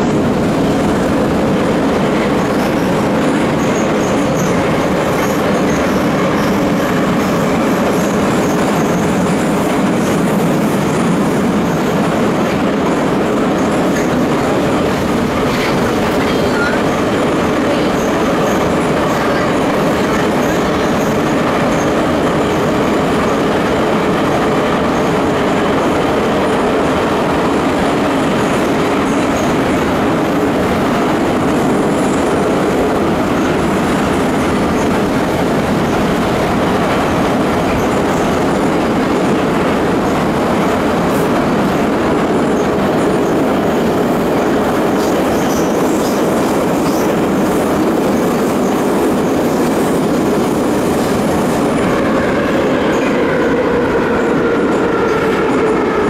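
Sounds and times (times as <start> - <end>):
metro train running in tunnel: 0.0 - 56.0.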